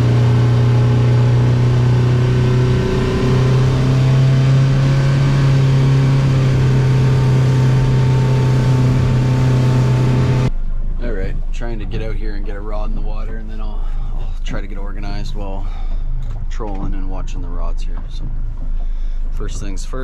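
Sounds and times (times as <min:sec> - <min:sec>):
outboard engine running: 0:00.0 - 0:20.0
wind and water noise: 0:00.0 - 0:20.0.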